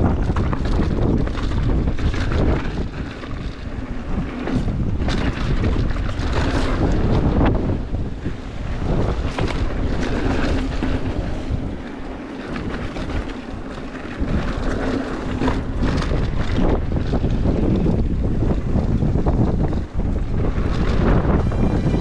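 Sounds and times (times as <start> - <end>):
bike clicks and rattles: 0.0 - 22.0
bike tyres rolling on gravel: 0.0 - 22.0
wind buffeting microphone: 0.0 - 22.0.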